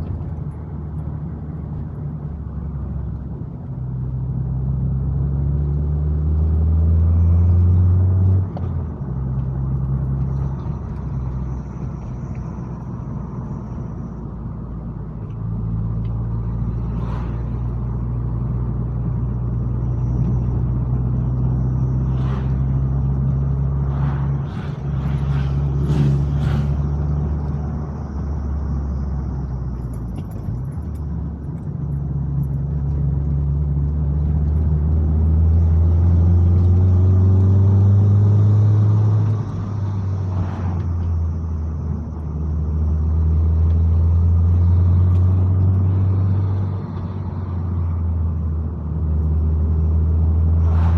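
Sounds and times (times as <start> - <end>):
car engine and tyre drone: 0.0 - 50.9.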